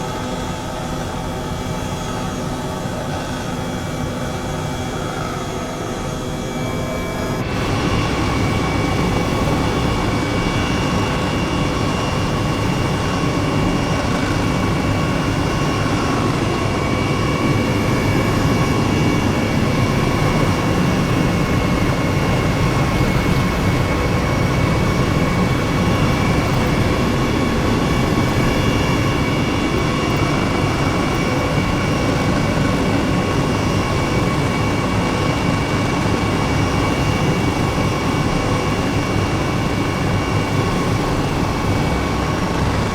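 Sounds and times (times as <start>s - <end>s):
jet engine high whine: 0.0s - 42.9s.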